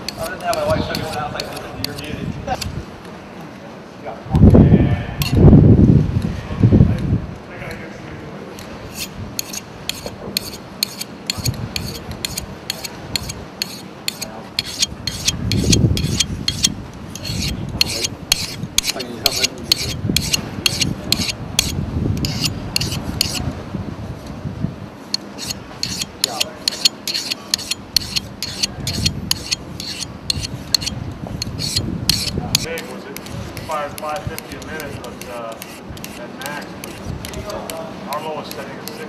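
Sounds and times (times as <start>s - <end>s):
knife sharpener rasping strokes: 0.0s - 2.7s, 5.2s - 5.4s, 8.9s - 23.4s, 25.1s - 39.0s.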